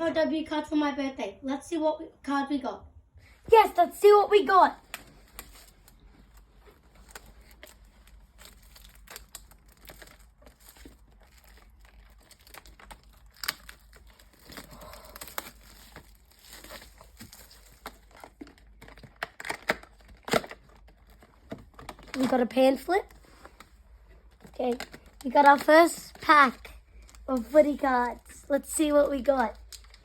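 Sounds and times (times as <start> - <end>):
packaging crinkled and torn: 3.7 - 30.0.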